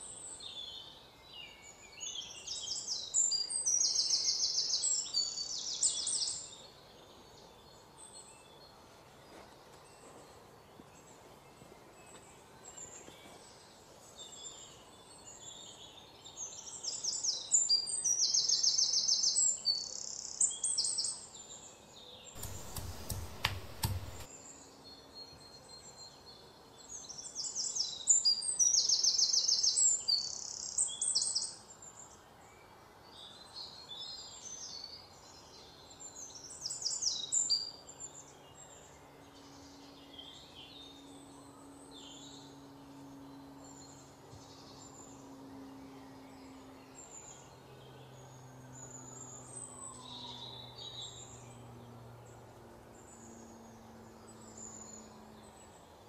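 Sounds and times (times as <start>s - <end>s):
faint outdoor ambience: 0.0s - 56.0s.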